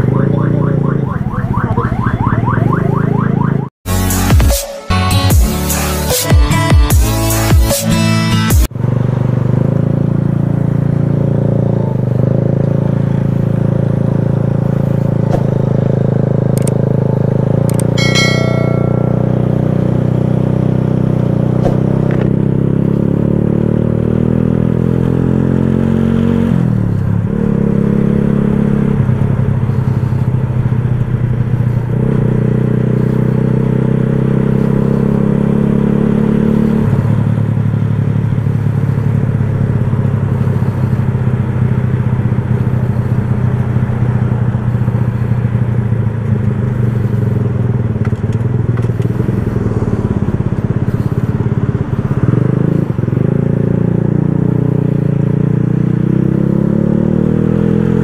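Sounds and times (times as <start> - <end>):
motorcycle engine running: 0.0 - 3.7, 8.6 - 58.0.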